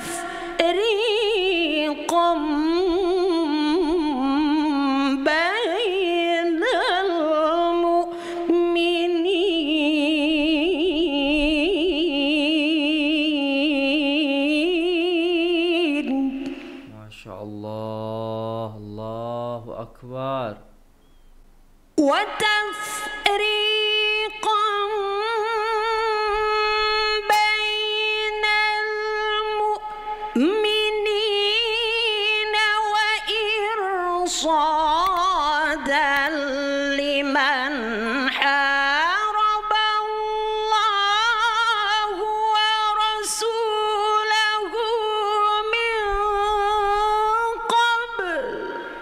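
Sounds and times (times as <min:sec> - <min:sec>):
woman reciting melodically: 0:00.0 - 0:16.9, 0:22.0 - 0:49.0.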